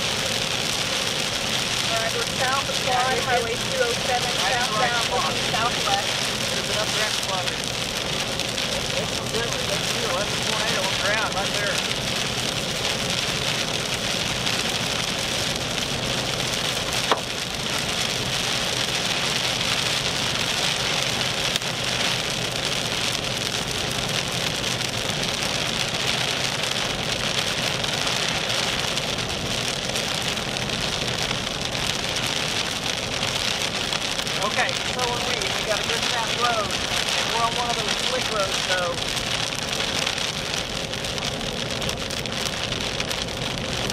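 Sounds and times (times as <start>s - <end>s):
rain on vehicle body: 0.0s - 43.9s
tyres hissing on wet road: 0.0s - 43.9s.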